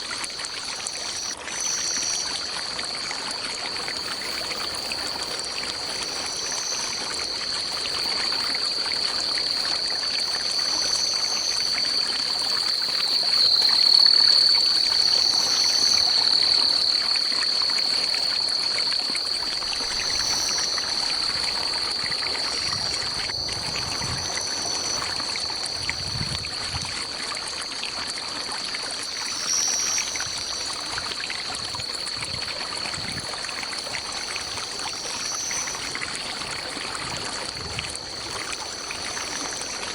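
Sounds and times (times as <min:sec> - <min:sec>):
high insect calls: 0:00.0 - 0:39.9
insects droning: 0:00.0 - 0:39.9
stream running water: 0:00.0 - 0:39.9.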